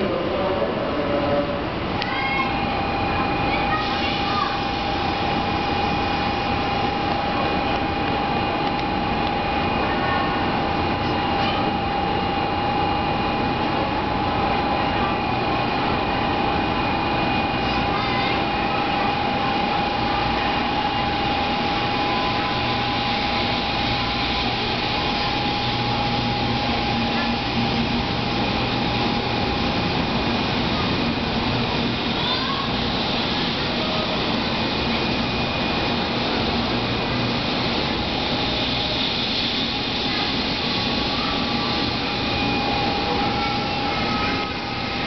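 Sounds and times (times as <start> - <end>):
constant mid-pitched hum: 0.0 - 45.0
train platform rumble and hiss: 0.0 - 45.0.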